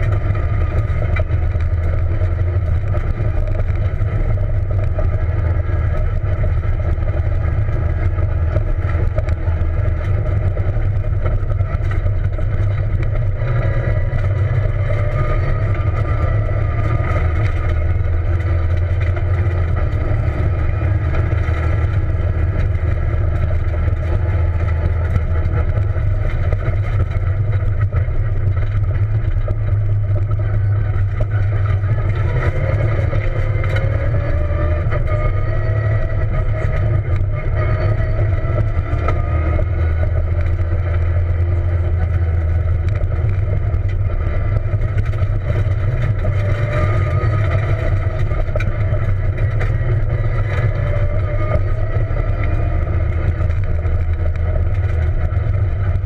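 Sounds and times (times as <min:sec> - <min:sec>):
car engine rumble: 0:00.0 - 0:56.0
road noise: 0:00.0 - 0:56.0.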